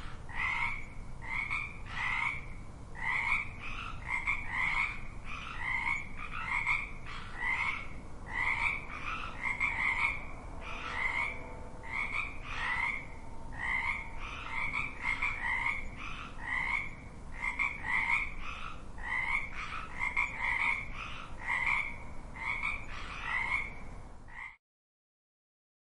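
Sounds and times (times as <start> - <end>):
faint background hiss: 0.0 - 24.5
frogs croaking: 0.0 - 24.6.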